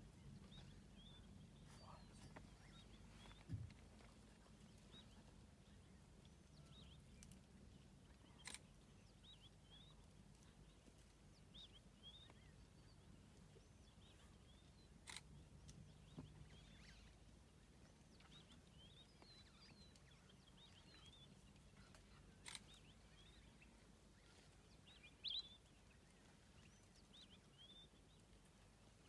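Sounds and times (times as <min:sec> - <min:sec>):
faint bird chirps: 0:00.1 - 0:29.0.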